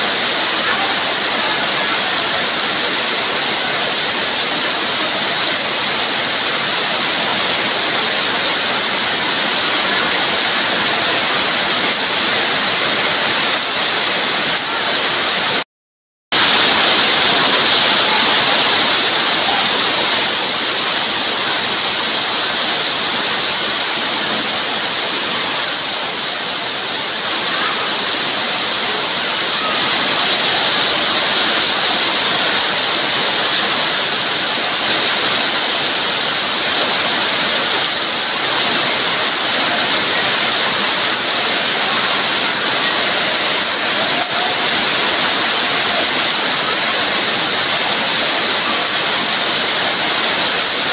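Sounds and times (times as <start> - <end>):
heavy rain falling: 0.0 - 15.7, 16.3 - 50.9.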